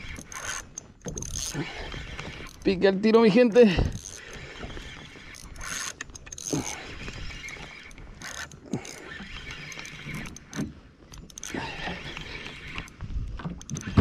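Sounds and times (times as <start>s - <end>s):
fishing reel clicking and whirring: 0.0s - 14.0s.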